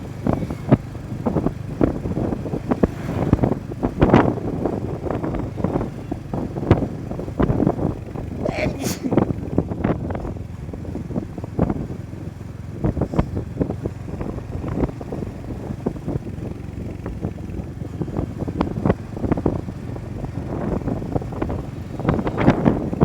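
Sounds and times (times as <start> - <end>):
motorcycle engine and road rumble: 0.0 - 23.0
wind buffeting microphone: 0.0 - 23.0.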